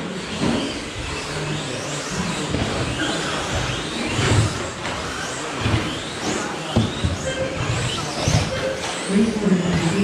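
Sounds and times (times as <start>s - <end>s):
rc truck motors whining: 0.0s - 10.0s.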